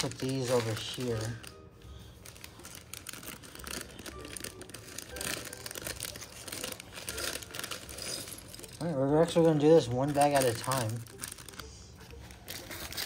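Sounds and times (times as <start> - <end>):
hands rummaging among pieces: 0.0 - 1.5, 2.2 - 13.0
plastic bags crinkling: 0.0 - 13.0.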